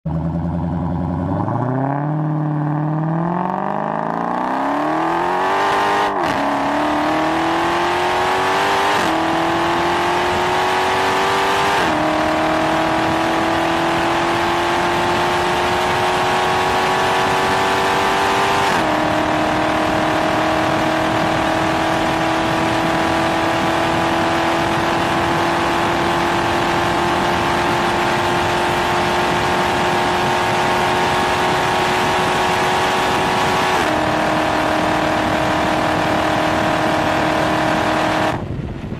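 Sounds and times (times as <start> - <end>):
car engine accelerating: 0.1 - 38.9.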